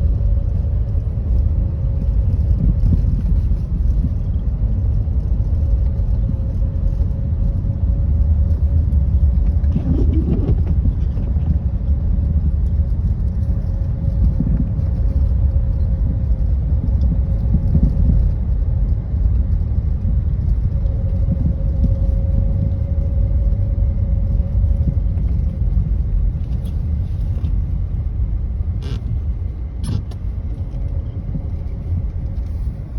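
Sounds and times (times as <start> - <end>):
constant hum: 0.0 - 32.9
engine and road rumble: 0.0 - 32.9.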